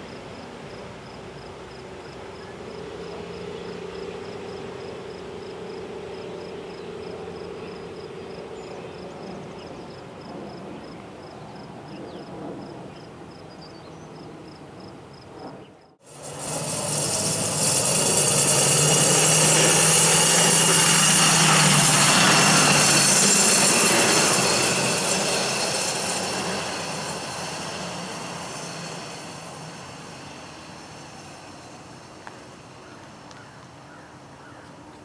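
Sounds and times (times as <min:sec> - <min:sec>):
diesel engines droning: 0:00.0 - 0:10.2, 0:16.0 - 0:35.0.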